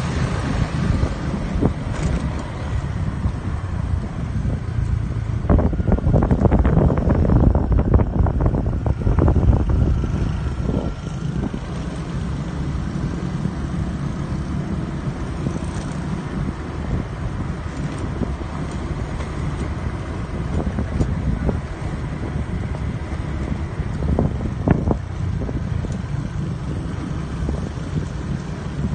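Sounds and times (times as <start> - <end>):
motorbike engine drone: 0.0 - 28.9
wind buffeting microphone: 0.0 - 28.9.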